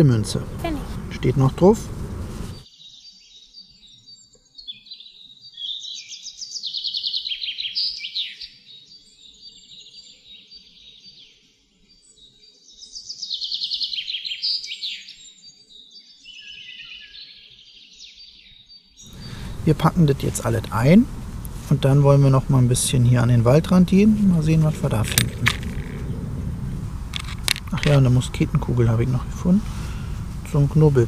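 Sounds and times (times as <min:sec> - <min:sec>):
songbird singing trills: 0:02.4 - 0:31.0.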